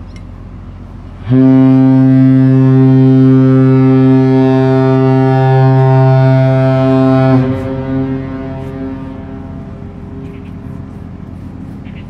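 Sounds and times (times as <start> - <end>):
ship's horn long low blast: 0.7 - 11.8.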